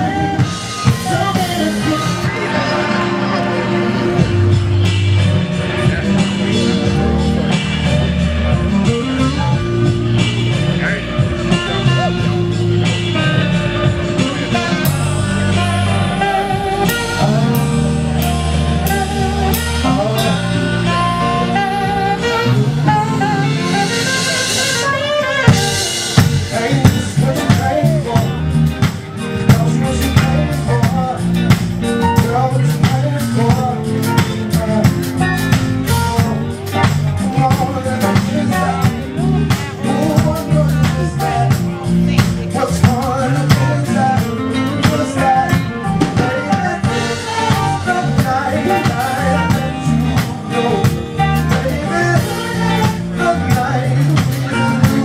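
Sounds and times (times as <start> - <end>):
live band music: 0.0 - 55.0
person singing: 0.0 - 55.0.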